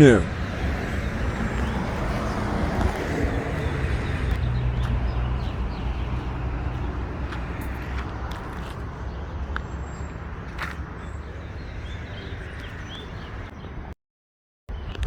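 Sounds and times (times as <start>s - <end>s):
motor vehicle humming: 0.0s - 13.8s.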